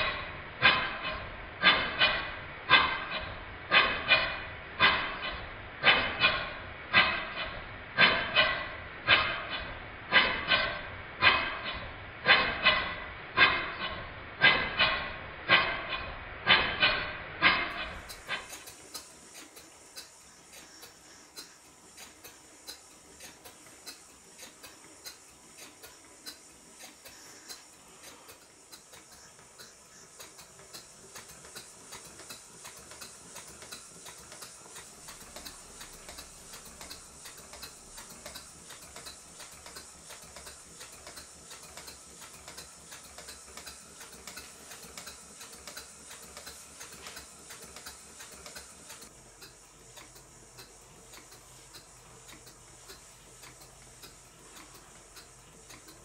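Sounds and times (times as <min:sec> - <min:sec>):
model steam engine ticking: 0:00.0 - 0:56.0.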